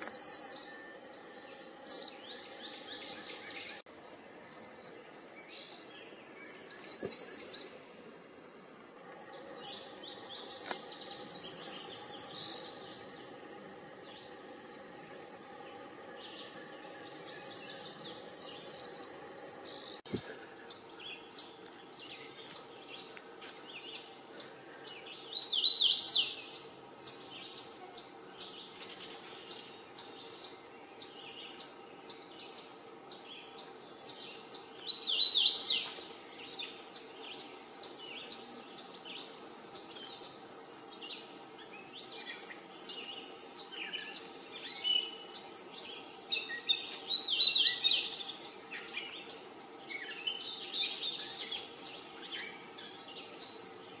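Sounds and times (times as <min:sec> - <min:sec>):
warbler singing: 0:00.0 - 0:54.0.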